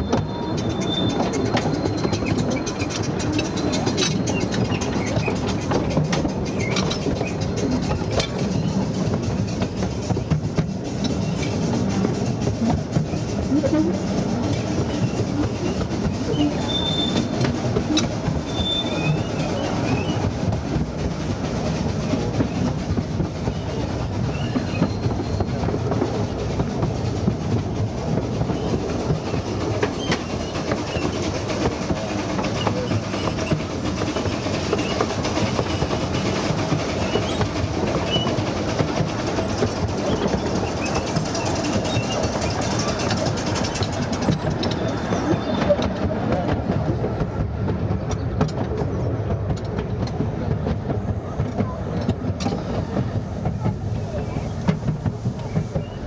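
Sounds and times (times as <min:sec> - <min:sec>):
train wheels rumbling: 0:00.0 - 0:56.0
wheels clicking over rail joints: 0:00.0 - 0:56.0.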